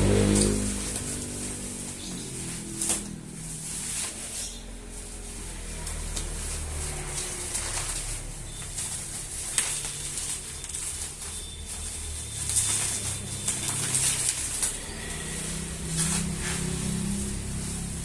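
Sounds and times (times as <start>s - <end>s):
packaging rustling and scraping: 0.0s - 18.0s.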